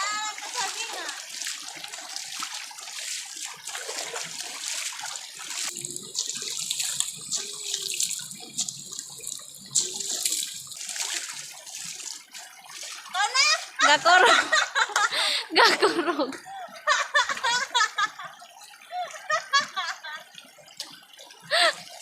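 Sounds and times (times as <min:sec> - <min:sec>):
water splashing and running: 0:00.0 - 0:22.0.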